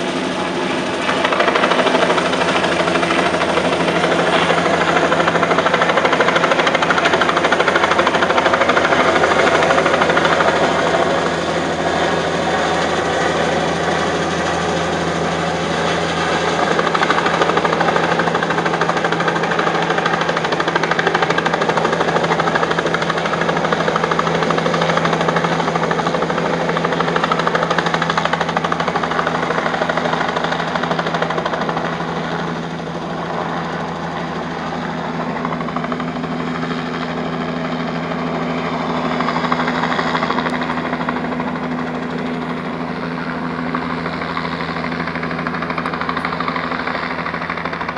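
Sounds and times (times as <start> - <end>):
helicopter flying low: 0.0 - 47.9.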